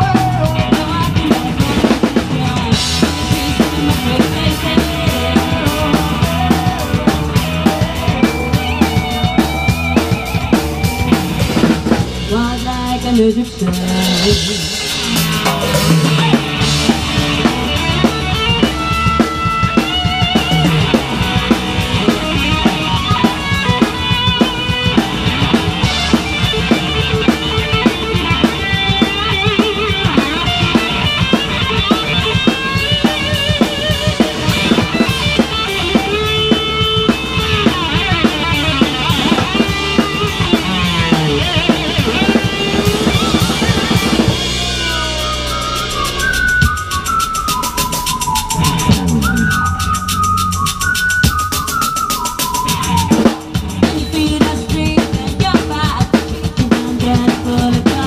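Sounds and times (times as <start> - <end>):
bass line: 0.0 - 58.0
drum kit beat: 0.0 - 58.0
melodic lead line: 0.6 - 54.0.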